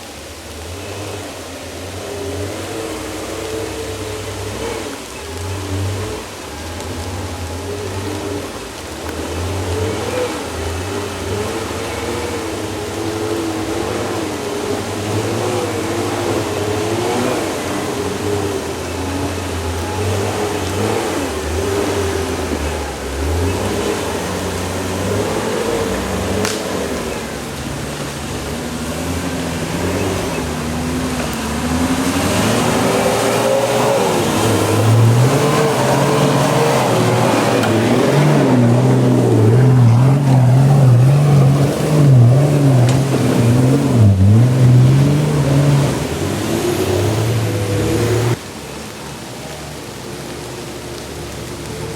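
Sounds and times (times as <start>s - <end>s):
engine revving under load: 0.3s - 48.5s.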